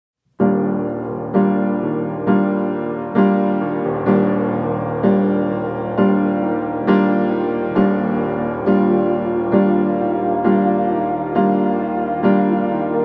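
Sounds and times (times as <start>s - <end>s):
piano chords: 0.3s - 13.0s.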